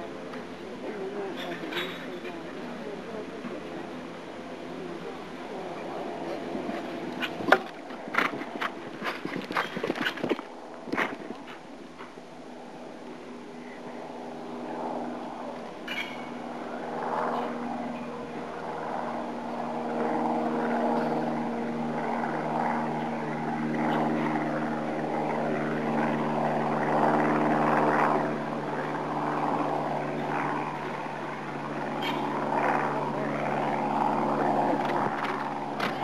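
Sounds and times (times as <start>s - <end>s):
low mechanical drone: 0.0s - 36.0s.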